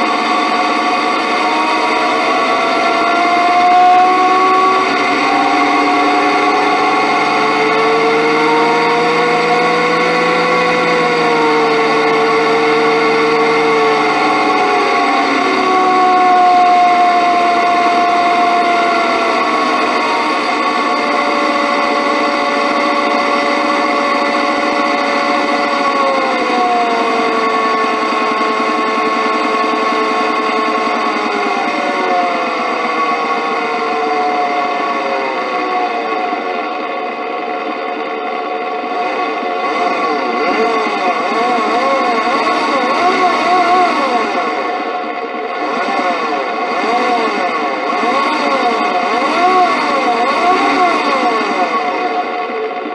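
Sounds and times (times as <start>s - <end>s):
ringing mechanical hum of pulleys: 0.0s - 52.9s.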